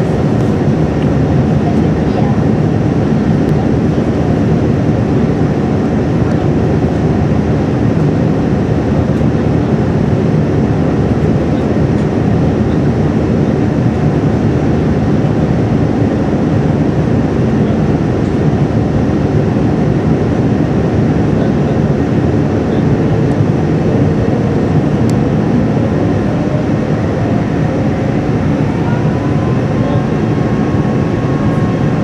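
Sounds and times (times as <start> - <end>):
jet engine and rushing air: 0.0 - 32.0.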